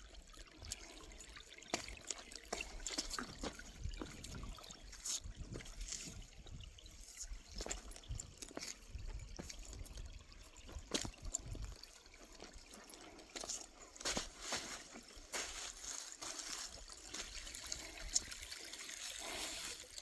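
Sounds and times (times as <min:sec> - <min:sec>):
water trickling over rocks: 0:00.0 - 0:20.0.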